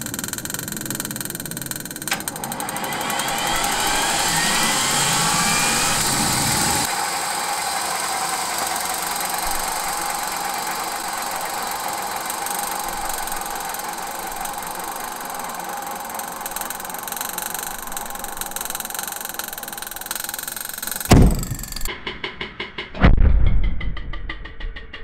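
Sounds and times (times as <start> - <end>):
turbine coasting whine and hiss: 0.0 - 21.9
turbine engine starter whine: 0.0 - 21.9.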